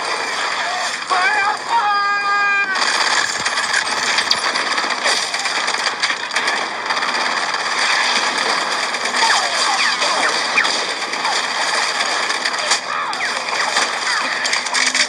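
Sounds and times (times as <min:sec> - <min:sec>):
gunfire and combat noise: 0:02.6 - 0:15.0.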